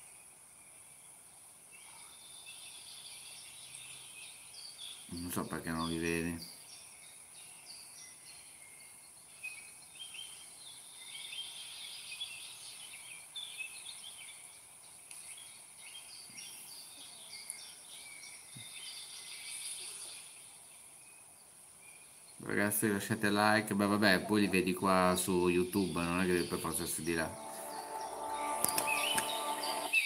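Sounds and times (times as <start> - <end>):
birds chirping: 0.0 - 30.0
steady high-pitched hiss: 0.0 - 30.0.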